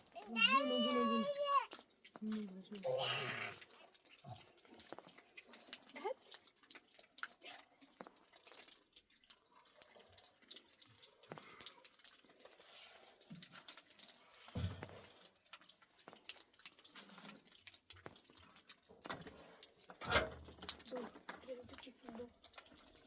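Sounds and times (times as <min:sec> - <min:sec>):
water dripping: 0:00.0 - 0:23.0.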